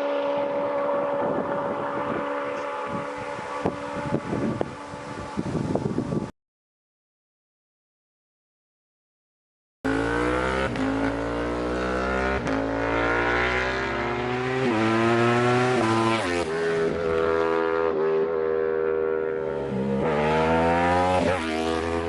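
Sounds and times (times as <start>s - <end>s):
motorcycle engine accelerating: 0.0s - 6.3s, 9.9s - 22.0s.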